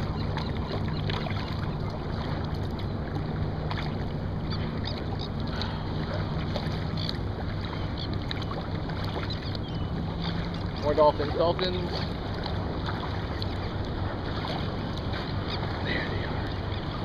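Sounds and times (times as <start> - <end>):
low hum: 0.0 - 17.0
water around a kayak: 0.0 - 17.0
wind: 0.0 - 17.0.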